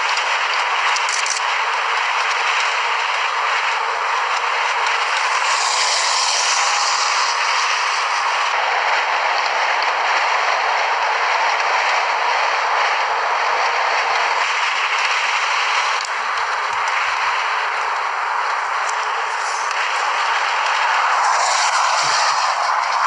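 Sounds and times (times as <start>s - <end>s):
rushing storm noise: 0.0s - 23.0s.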